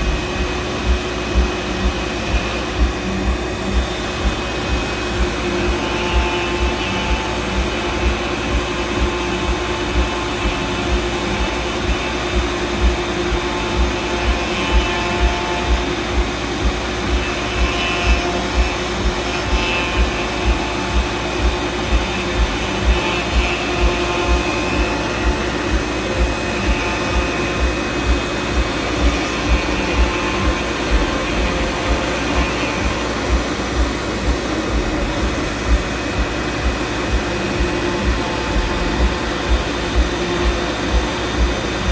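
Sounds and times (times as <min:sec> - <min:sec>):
router spindle running: 0:00.0 - 0:41.9
stepper motors whining: 0:00.0 - 0:41.9.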